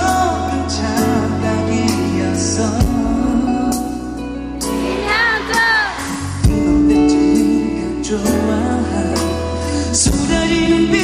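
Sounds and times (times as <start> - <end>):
band with guitar: 0.0 - 11.0
man singing: 0.0 - 11.0.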